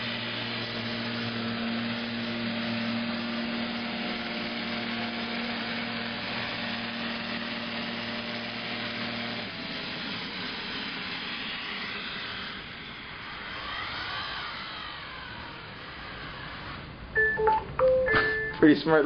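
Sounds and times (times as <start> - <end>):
robot vacuum motor hum: 0.0 - 17.1.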